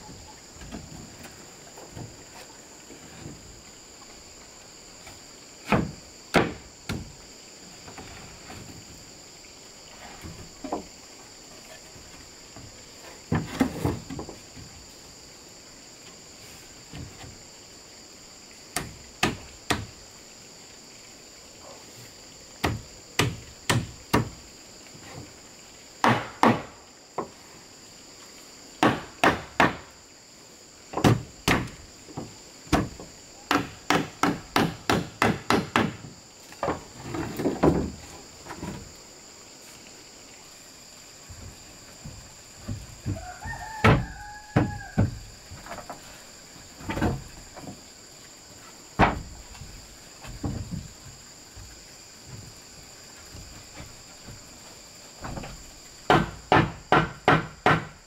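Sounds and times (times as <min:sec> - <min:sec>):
insect chirring: 0:00.0 - 0:58.0.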